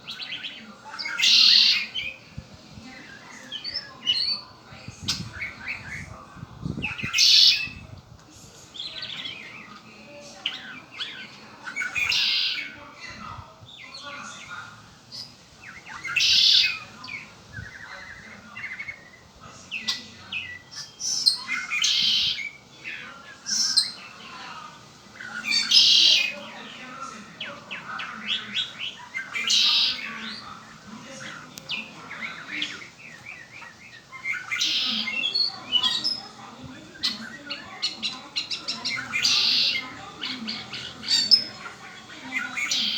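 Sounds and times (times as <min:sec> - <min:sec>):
bird chirps and chattering: 0:00.0 - 0:02.2, 0:03.0 - 0:07.8, 0:08.7 - 0:12.8, 0:15.1 - 0:24.3, 0:25.0 - 0:26.4, 0:27.4 - 0:42.9
blackbird singing buzzy phrases: 0:00.0 - 0:08.0, 0:08.7 - 0:24.4, 0:25.0 - 0:42.9.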